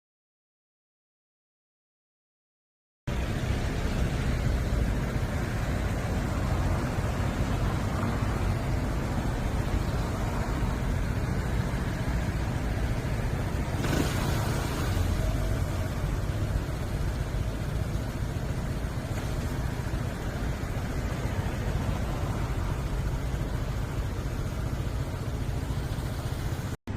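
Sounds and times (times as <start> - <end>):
road noise while cycling: 3.1 - 26.9.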